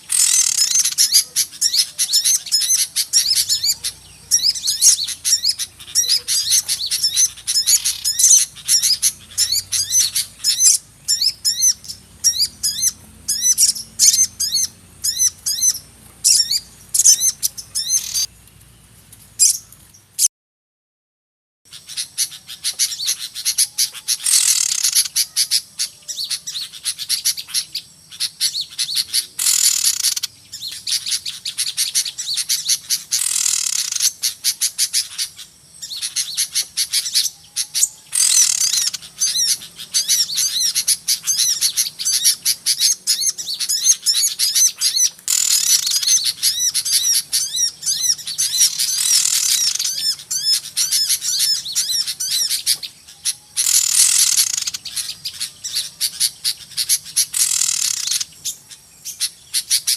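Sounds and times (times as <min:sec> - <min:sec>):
rapid bird trilling: 0:00.0 - 0:18.3, 0:21.7 - 0:59.9
small birds chirping and twittering: 0:00.0 - 0:20.3, 0:21.7 - 0:59.9.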